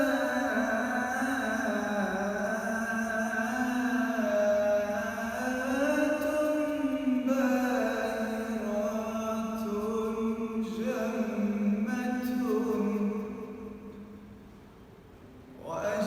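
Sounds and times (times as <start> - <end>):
man singing devotional song: 0.0 - 13.9, 15.6 - 16.0.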